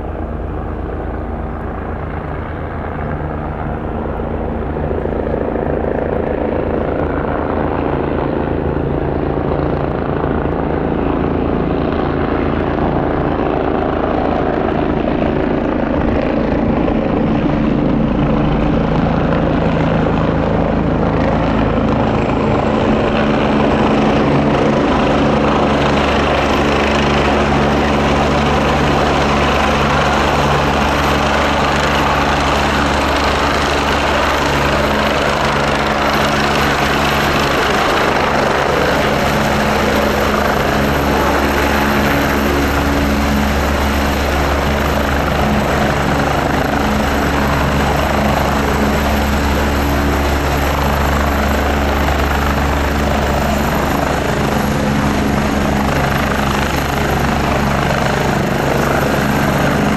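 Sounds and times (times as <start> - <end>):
helicopter rotor beat: 0.0 - 59.9.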